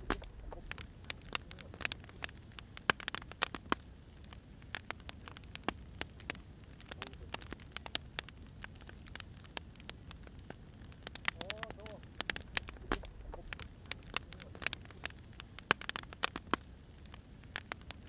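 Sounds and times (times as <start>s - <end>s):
firewood crackling and popping: 0.0s - 18.0s
low rumble of fire: 0.0s - 18.0s.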